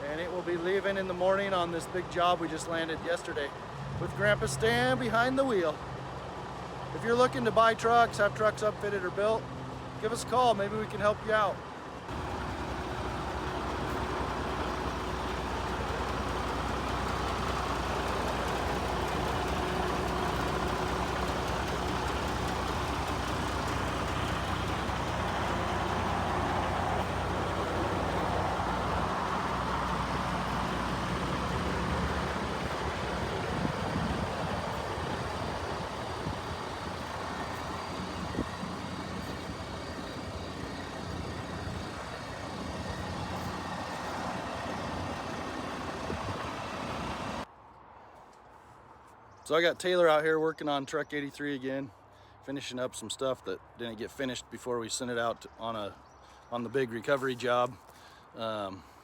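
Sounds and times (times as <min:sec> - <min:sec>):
diesel truck engine hum: 0:00.0 - 0:47.5.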